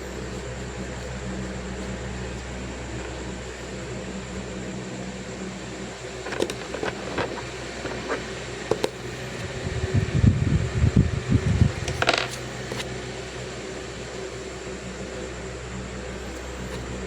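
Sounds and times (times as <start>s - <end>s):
scratching rub: 0.0s - 4.5s, 5.5s - 10.1s, 11.3s - 17.0s
faint hum: 0.0s - 17.0s.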